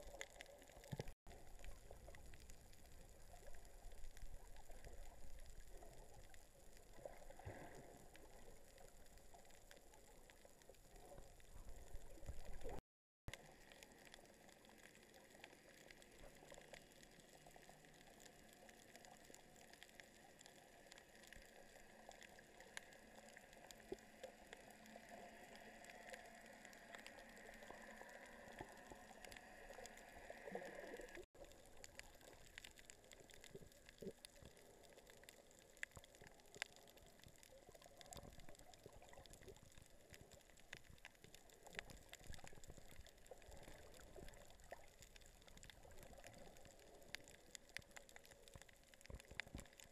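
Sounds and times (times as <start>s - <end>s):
low underwater hiss: 0.0s - 49.9s
rising water gurgle: 0.0s - 49.9s
small clicks and crackles: 0.0s - 49.9s.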